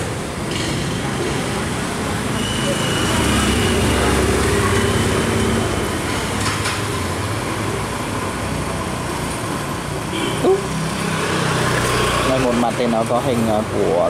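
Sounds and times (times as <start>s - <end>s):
road noise: 0.0s - 14.0s
traffic engine hum: 0.0s - 14.0s.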